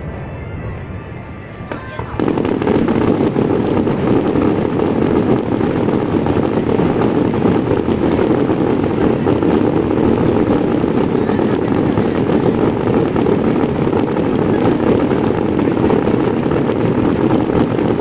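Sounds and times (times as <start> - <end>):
fireworks barrage rumbling: 0.0 - 18.0
fireworks crackling: 0.0 - 18.0.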